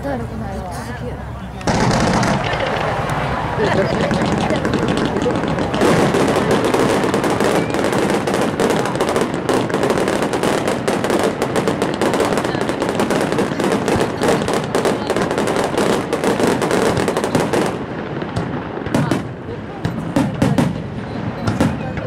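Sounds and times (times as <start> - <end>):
fireworks bangs and crackling: 1.6 - 22.0.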